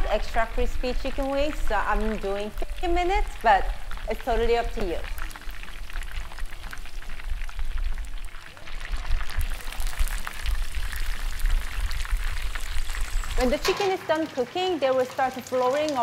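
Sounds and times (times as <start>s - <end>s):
chicken wings deep-frying in oil: 0.0s - 16.0s.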